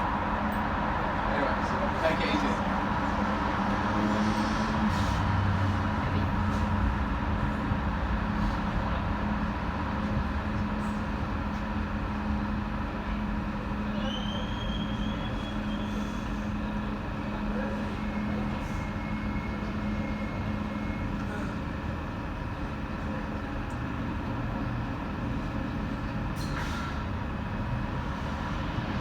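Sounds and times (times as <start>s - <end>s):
train low hum: 0.0s - 29.0s.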